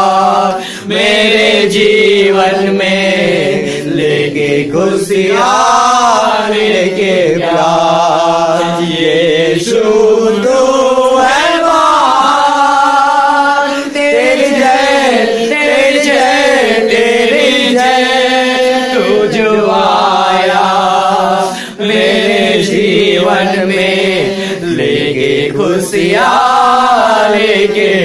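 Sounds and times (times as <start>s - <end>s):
group singing a worship song: 0.0s - 28.0s.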